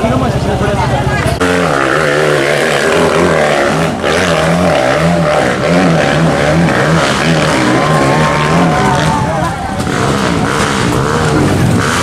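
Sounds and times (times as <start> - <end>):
dirt bike engine revving: 1.2 - 12.0.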